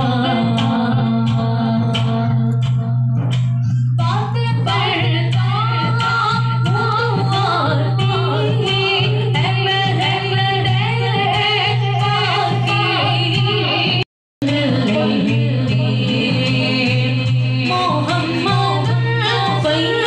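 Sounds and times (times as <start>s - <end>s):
woman chanting: 0.0s - 2.8s, 4.0s - 20.0s.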